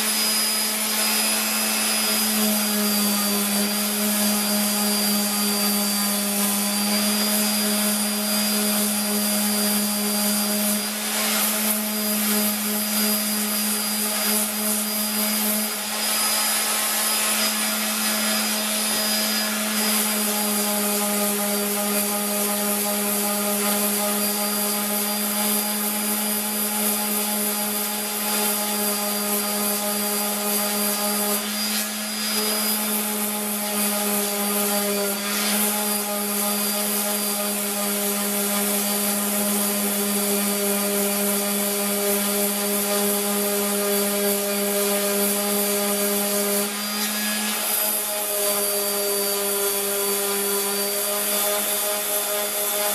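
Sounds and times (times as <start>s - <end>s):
power tool motor humming: 0.0s - 52.9s.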